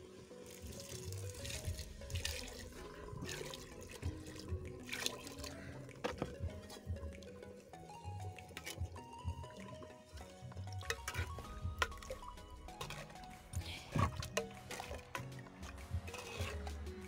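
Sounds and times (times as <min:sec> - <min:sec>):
water pouring into a pot: 0:00.0 - 0:07.5, 0:08.4 - 0:17.0.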